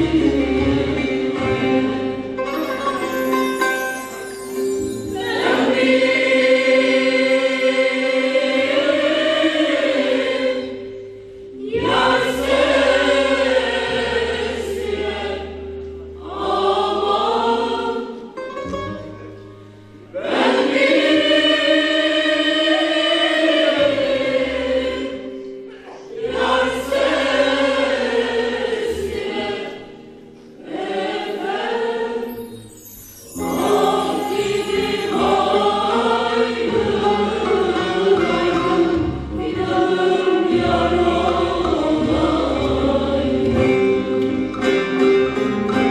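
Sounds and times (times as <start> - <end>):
mixed choir singing folk song: 0.0 - 45.9.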